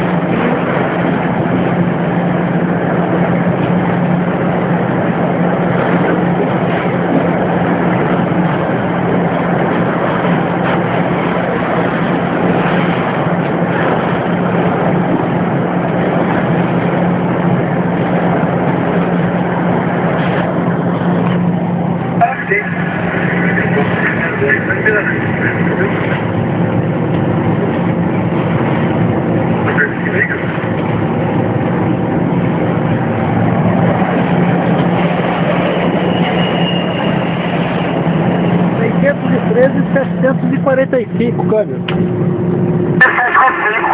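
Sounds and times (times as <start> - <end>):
diesel locomotive running: 0.0 - 43.9.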